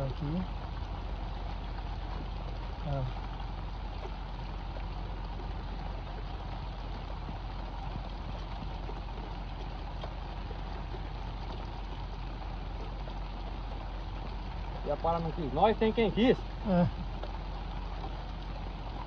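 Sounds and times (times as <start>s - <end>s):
boat motor idling: 0.0s - 19.0s
rain falling on river: 0.0s - 19.0s.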